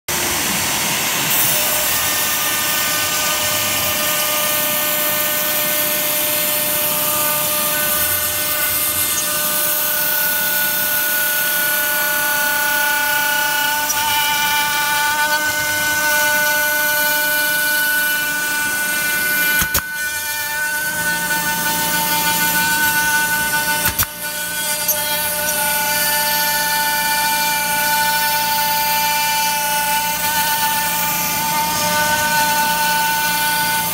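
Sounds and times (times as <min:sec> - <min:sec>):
router spindle whining: 0:00.1 - 0:33.9.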